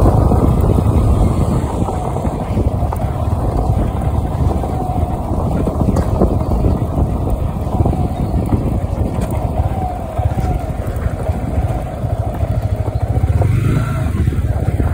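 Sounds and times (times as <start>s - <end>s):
motorcycle engine at low revs: 0.0s - 14.9s
wind buffeting microphone: 0.0s - 14.9s.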